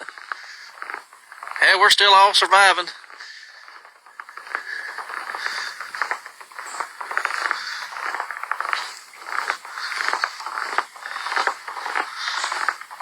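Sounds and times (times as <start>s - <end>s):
footsteps crunching on icy snow: 0.0s - 13.0s.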